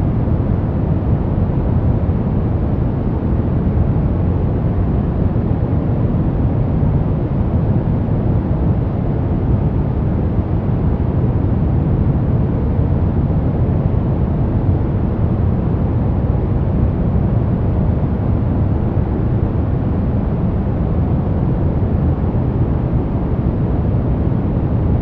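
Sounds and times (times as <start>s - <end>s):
deep steady white noise: 0.0s - 25.0s.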